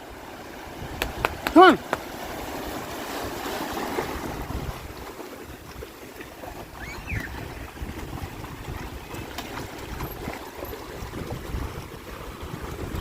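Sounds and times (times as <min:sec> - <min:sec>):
wind buffeting microphone: 0:00.6 - 0:13.0.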